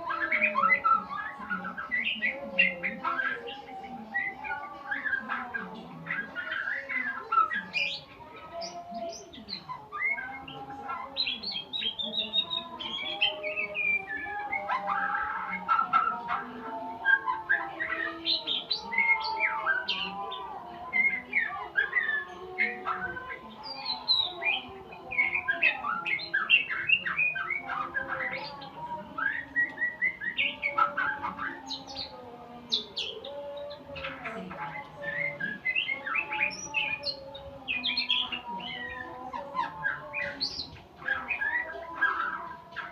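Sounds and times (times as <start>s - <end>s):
songbird singing whistled phrases: 0.0s - 42.9s.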